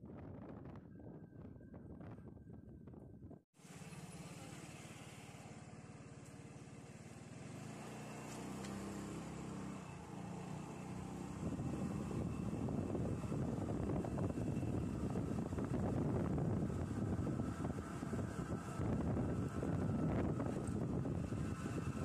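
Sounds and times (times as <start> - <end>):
vehicle engine running: 3.6 - 22.0.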